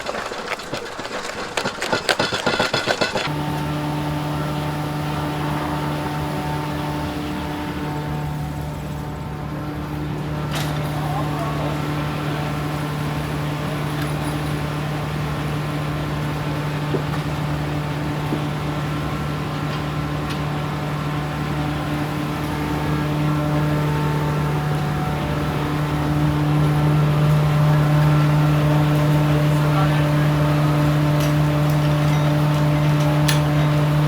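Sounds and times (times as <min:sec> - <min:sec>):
machine engine humming: 0:00.0 - 0:34.0.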